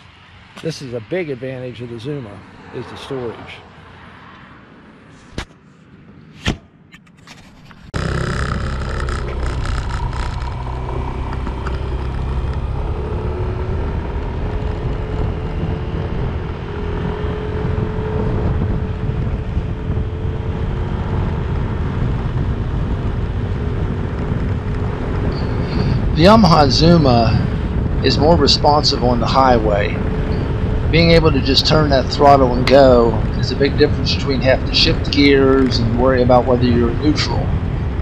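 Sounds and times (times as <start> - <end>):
wind rumble on microphone: 7.3 - 38.0
scooter engine hum: 7.4 - 38.0.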